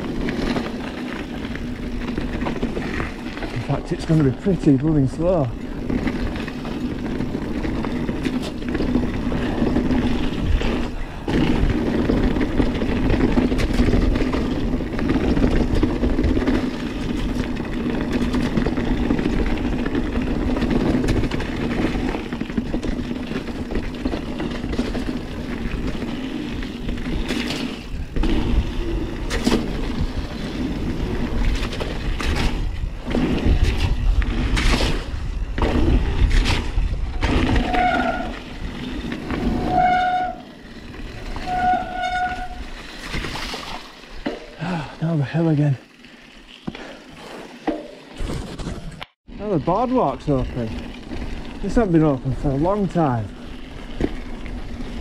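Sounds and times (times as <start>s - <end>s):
bike rattling and knocking: 0.0s - 55.0s
tyre and wind noise: 0.0s - 55.0s.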